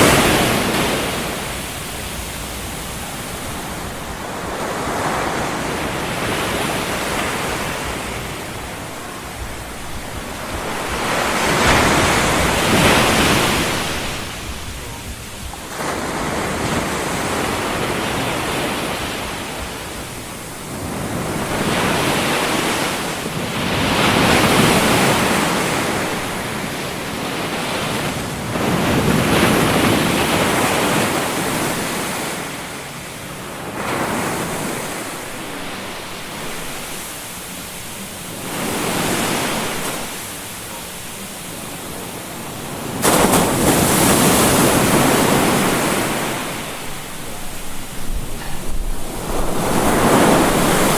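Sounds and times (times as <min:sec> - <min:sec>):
ocean waves washing: 0:00.0 - 0:50.9.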